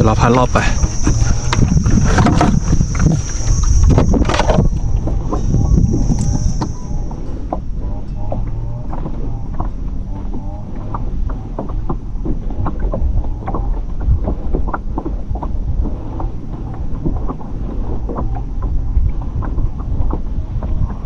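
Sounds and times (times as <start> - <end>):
boat motor rumble: 0.0 - 21.0
wind buffeting microphone: 0.0 - 21.0.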